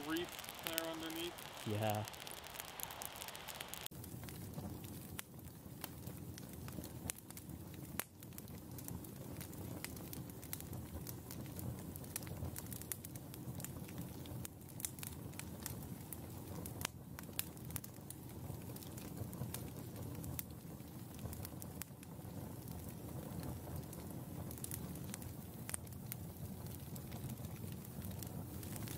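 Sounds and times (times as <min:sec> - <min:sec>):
campfire crackling and popping: 0:00.0 - 0:28.9
low rush of flames: 0:00.0 - 0:28.9.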